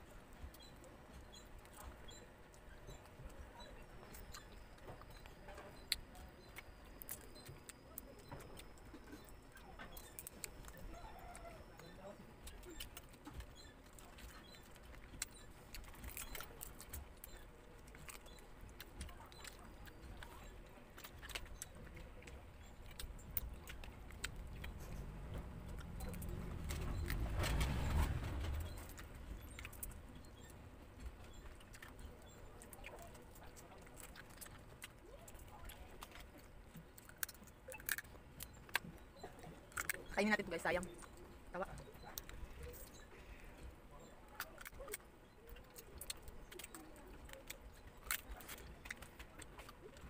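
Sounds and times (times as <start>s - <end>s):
wet chewing and lip smacks: 0.3s - 50.0s
crab shells clicking: 3.8s - 27.6s, 28.5s - 50.0s.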